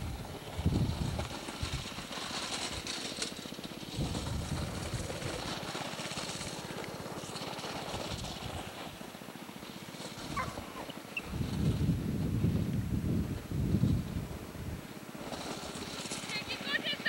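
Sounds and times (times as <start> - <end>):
wind buffeting microphone: 0.0 - 3.0, 3.8 - 9.0, 10.1 - 16.7
distant go-kart engine buzzing: 0.0 - 17.0.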